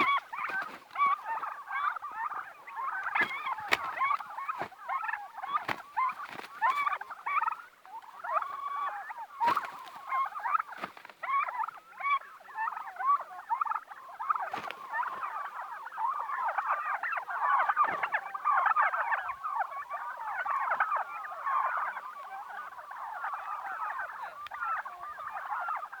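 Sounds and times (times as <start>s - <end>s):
turkeys calling: 0.0s - 26.0s.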